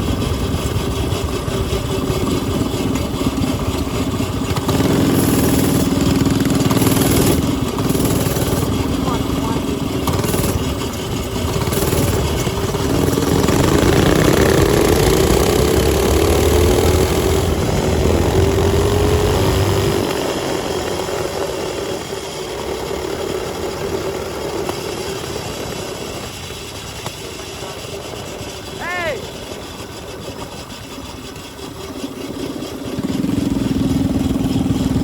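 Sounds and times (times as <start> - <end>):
small bike engine running: 0.0 - 35.0.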